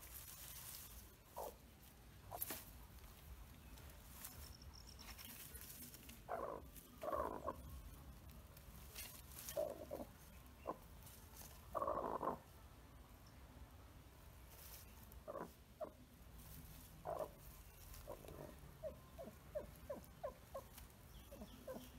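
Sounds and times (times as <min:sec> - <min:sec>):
faint rustling: 0:00.0 - 0:12.5, 0:14.2 - 0:21.9.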